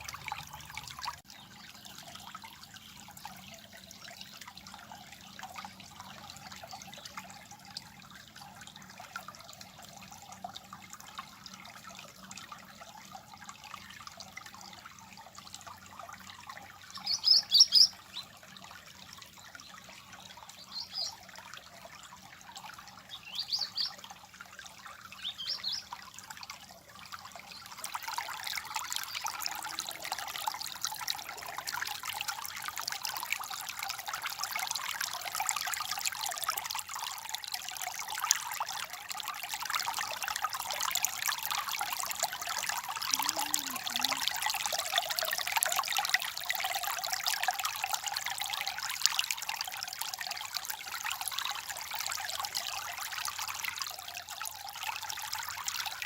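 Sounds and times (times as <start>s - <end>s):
water trickling and babbling: 0.0s - 56.0s.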